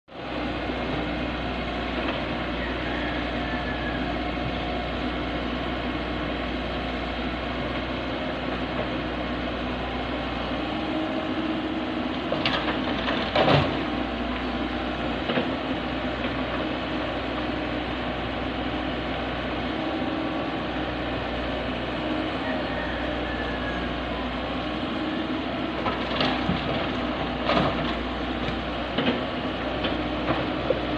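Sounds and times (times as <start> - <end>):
excavator diesel engine running: 0.1 - 30.9.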